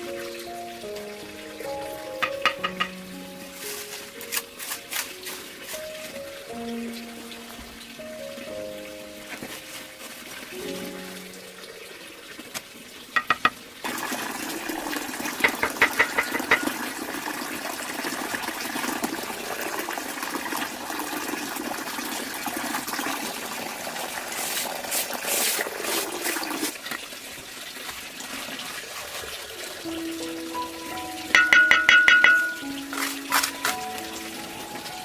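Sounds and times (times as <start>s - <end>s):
running water rushing: 0.0s - 35.0s.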